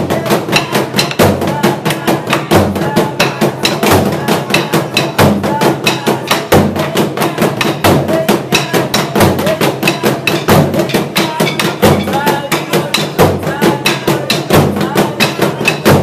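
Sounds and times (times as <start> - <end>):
drums beaten with sticks: 0.0 - 16.0.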